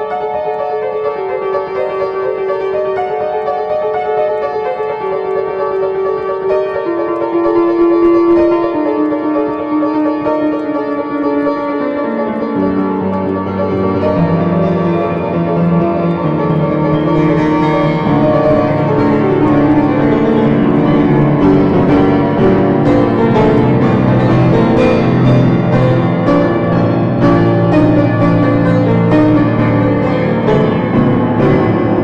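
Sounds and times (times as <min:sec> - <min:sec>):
light tapping percussion: 0:00.0 - 0:32.0
piano-like keyboard music: 0:00.0 - 0:32.0.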